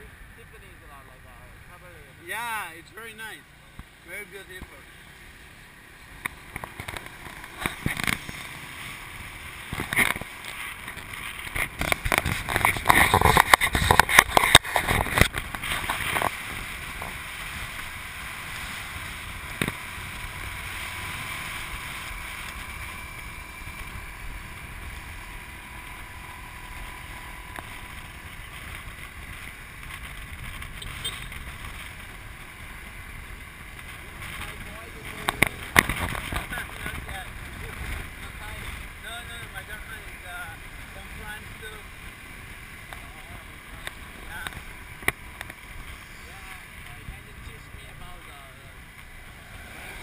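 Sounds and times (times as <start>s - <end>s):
road noise: 0.0s - 50.0s.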